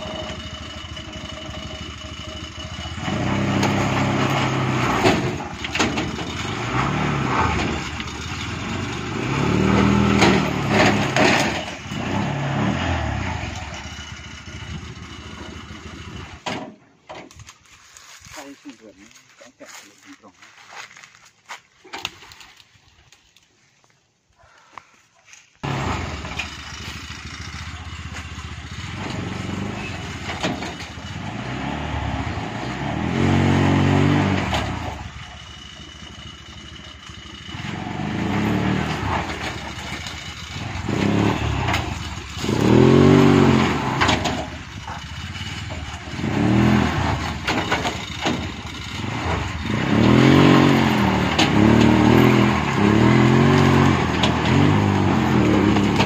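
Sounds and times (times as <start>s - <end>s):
small petrol engine revving: 0.0s - 16.5s, 25.6s - 56.0s.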